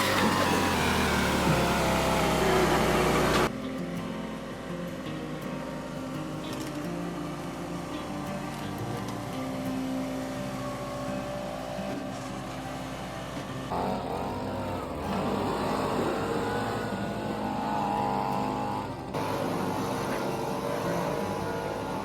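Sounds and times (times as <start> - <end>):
firewood splitter engine: 0.0 - 22.0.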